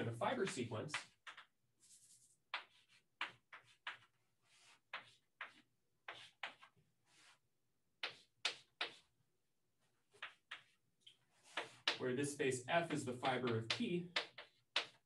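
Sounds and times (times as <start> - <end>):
chalk tapping on blackboard: 0.3 - 7.3, 8.0 - 9.1, 10.1 - 12.1, 12.7 - 15.0.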